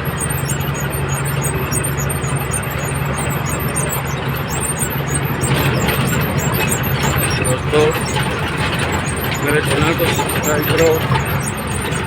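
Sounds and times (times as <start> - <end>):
road noise: 0.0 - 12.0
truck engine humming: 0.0 - 12.0.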